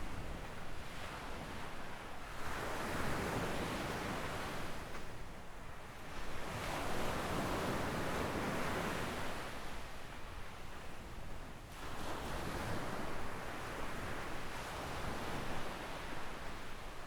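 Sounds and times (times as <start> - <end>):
gentle waves breaking on beach: 0.0 - 17.0.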